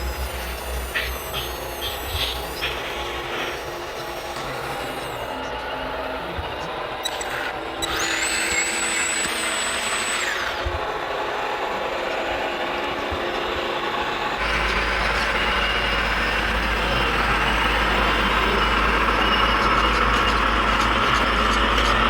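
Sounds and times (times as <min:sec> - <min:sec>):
high electric whine: 0:00.0 - 0:11.1, 0:13.8 - 0:22.0
low machine running noise: 0:00.0 - 0:22.0.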